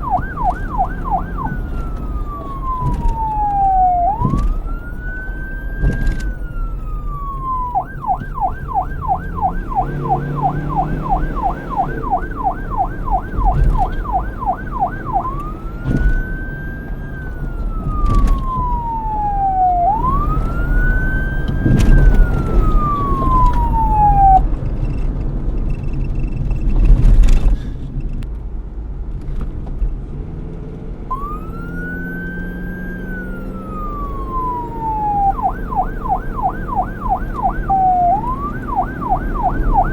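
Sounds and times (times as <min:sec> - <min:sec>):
police siren wailing and yelping: 0:00.0 - 0:24.4, 0:31.1 - 0:39.9
low traffic rumble: 0:00.0 - 0:39.9.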